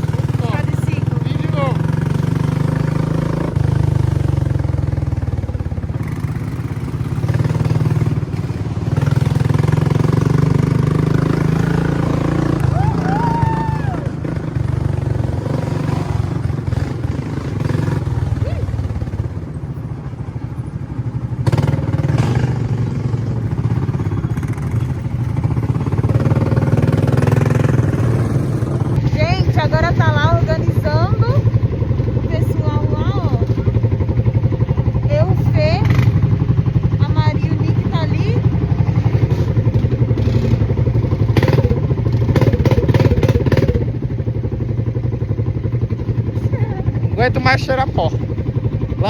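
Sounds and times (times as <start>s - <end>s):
quad bike engine running: 0.0s - 49.0s.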